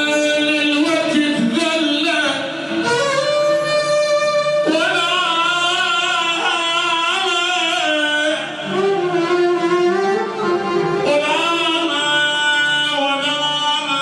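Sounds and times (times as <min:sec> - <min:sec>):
instrumental backing: 0:00.0 - 0:14.0
person singing with vibrato: 0:00.0 - 0:14.0.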